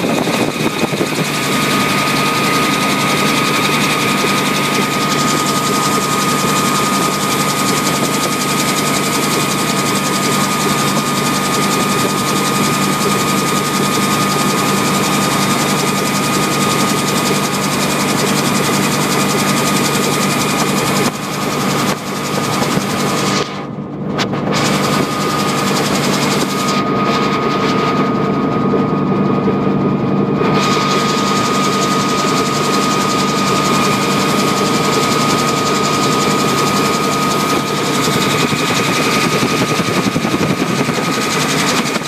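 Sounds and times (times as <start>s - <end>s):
helicopter cabin drone: 0.0s - 42.0s.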